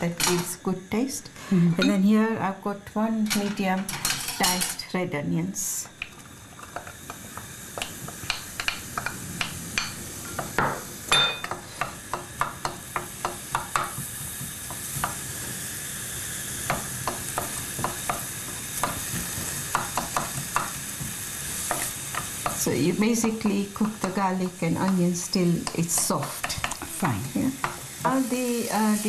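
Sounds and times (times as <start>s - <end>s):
onion sizzling in oil: 0.0s - 29.0s.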